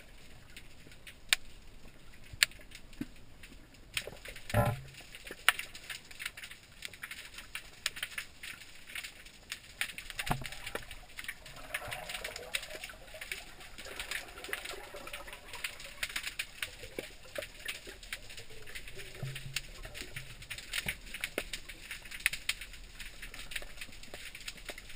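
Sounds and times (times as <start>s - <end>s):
underwater crackle: 0.0s - 24.9s.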